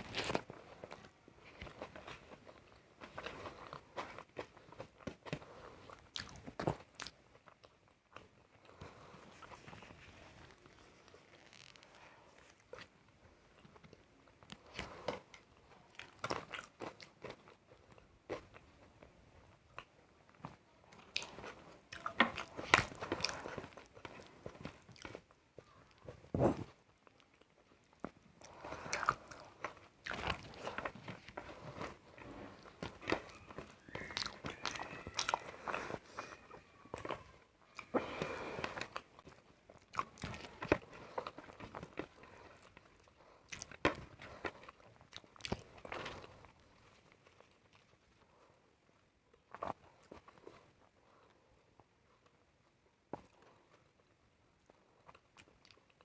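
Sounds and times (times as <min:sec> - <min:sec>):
person chewing crunchy food: 0:00.0 - 0:48.5, 0:53.2 - 0:56.0.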